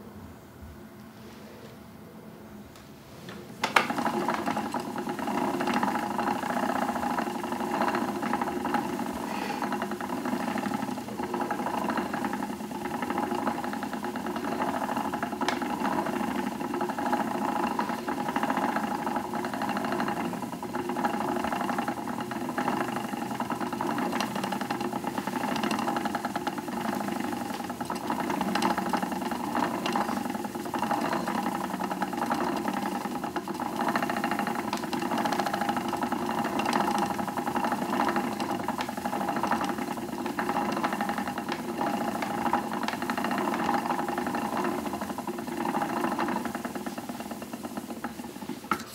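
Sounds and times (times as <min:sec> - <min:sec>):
spinning wheel whirring: 0:03.6 - 0:48.9.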